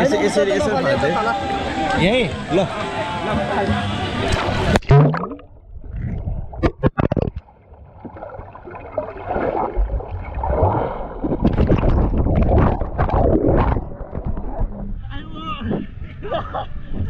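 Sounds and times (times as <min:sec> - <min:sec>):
muffled water gurgling and splashing: 0:02.9 - 0:17.0.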